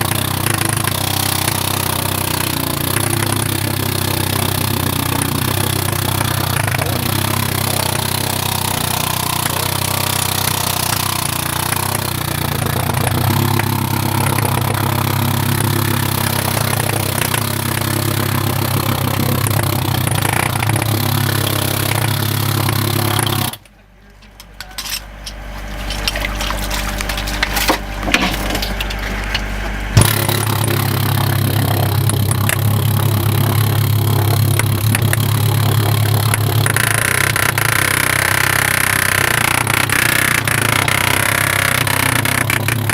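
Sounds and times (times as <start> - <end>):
jackhammer on steel sheet pile: 0.0 - 23.7, 24.6 - 42.9
low hum: 0.0 - 42.9.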